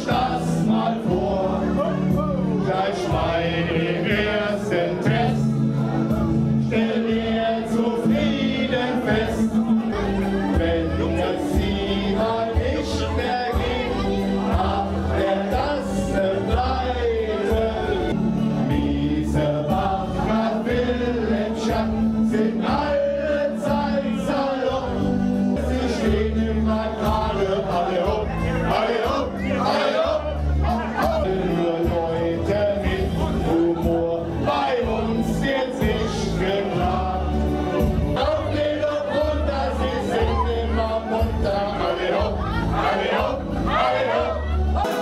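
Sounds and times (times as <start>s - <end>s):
backing music: 0.0s - 45.0s
man singing through microphone: 0.0s - 45.0s
people singing along: 0.0s - 45.0s.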